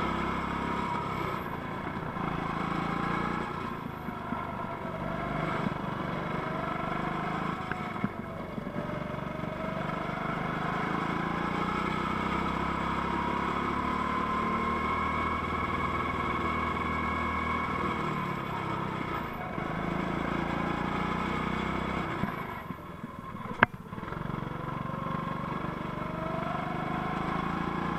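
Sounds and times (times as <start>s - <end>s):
go-kart engine running: 0.0s - 27.9s.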